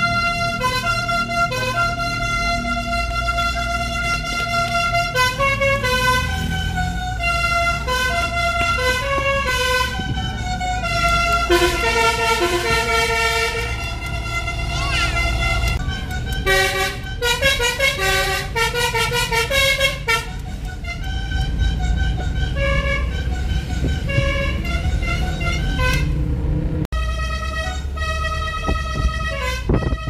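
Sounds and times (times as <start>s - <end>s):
bus horn playing tune: 0.0s - 26.2s, 26.9s - 30.0s
engine and road rumble: 0.0s - 30.0s.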